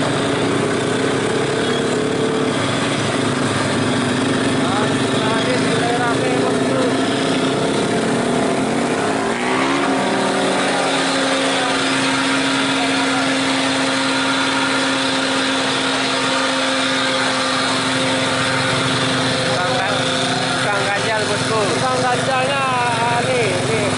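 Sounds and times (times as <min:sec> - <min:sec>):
truck diesel engine running hard: 0:00.0 - 0:23.9.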